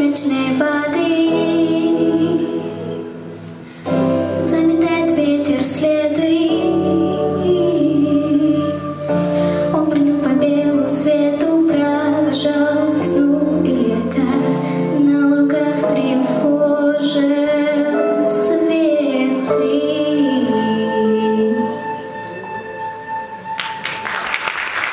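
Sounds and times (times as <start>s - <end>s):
girl singing: 0.0s - 3.2s, 4.2s - 22.1s
instrumental accompaniment: 0.0s - 24.9s.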